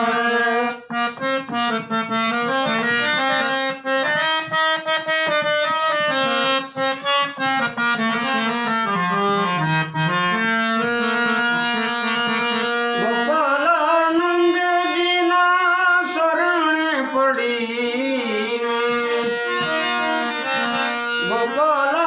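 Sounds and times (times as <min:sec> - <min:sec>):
harmonium melody: 0:00.0 - 0:22.0.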